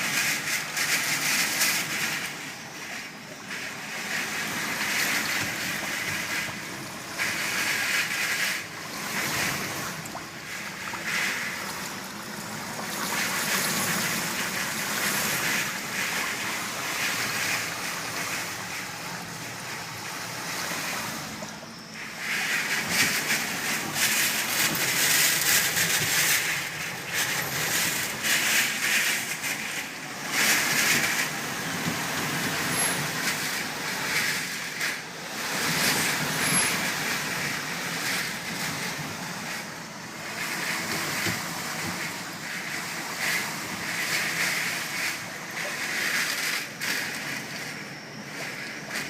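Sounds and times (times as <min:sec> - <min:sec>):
driven rain: 0:00.0 - 0:49.0.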